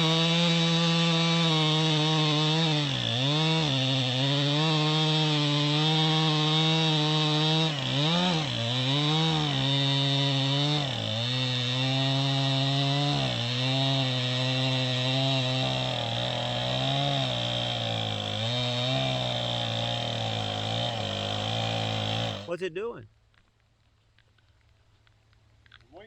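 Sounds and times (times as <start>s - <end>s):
chainsaw cutting through log: 0.0s - 22.6s.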